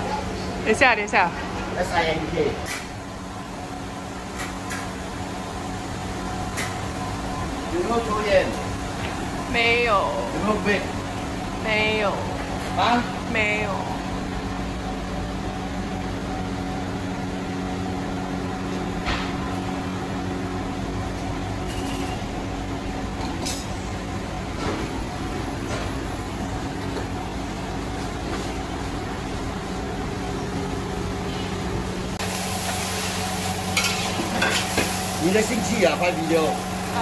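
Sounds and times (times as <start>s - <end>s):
electric fans humming: 0.0s - 37.0s.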